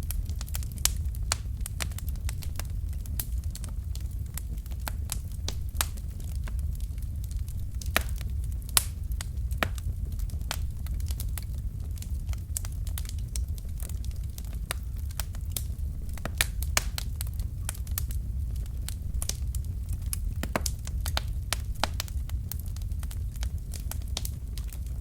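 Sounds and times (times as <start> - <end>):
fire popping: 0.0 - 25.0
logs crackling in fireplace: 0.0 - 25.0
low rumble: 0.0 - 25.0.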